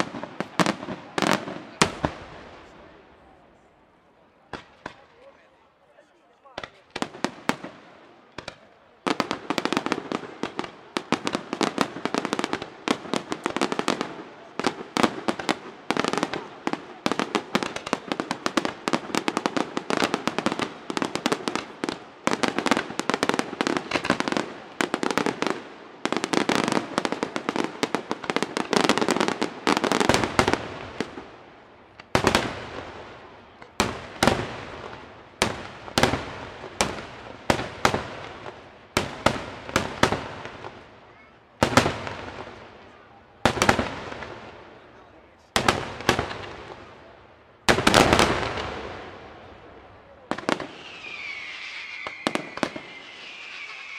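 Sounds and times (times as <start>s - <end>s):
fireworks bangs and crackles: 0.0s - 3.7s, 4.4s - 5.6s, 6.4s - 53.9s.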